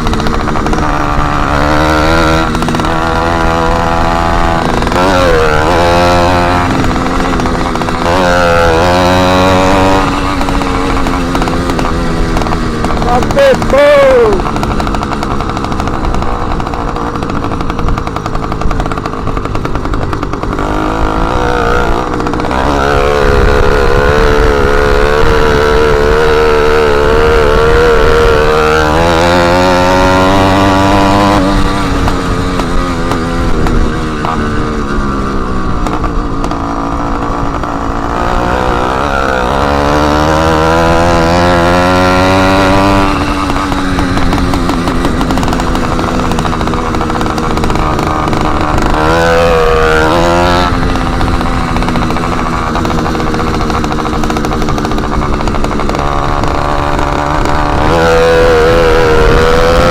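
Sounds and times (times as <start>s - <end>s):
small motorbike engine revving: 0.0s - 59.9s.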